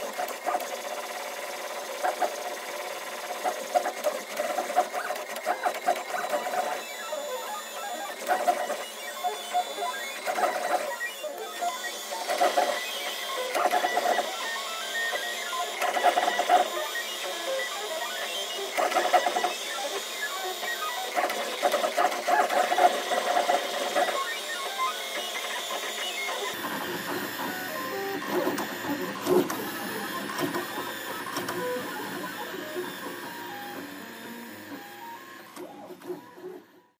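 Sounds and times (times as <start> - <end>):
printer stepper motors whirring: 0.0 - 36.9.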